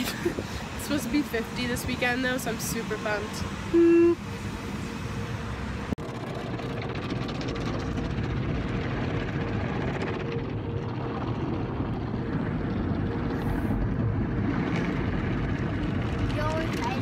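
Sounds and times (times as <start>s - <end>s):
vehicle rumble inside cabin: 0.0s - 17.0s.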